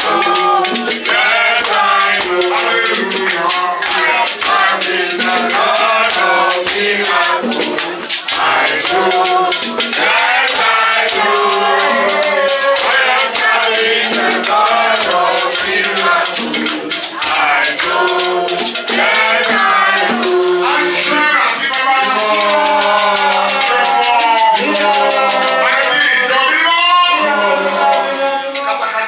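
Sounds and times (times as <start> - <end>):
shaker rattle: 0.0 - 26.6
group singing: 0.0 - 29.0.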